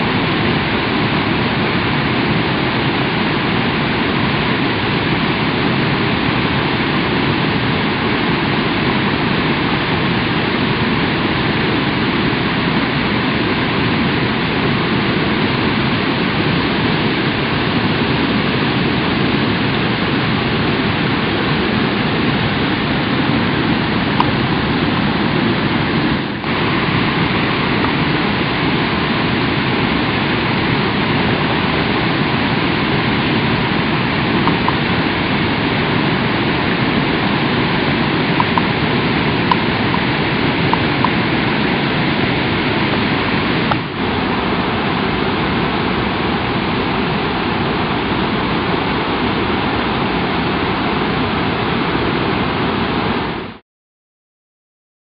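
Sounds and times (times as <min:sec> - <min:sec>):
waterfall rushing over rocks: 0:00.0 - 0:53.6.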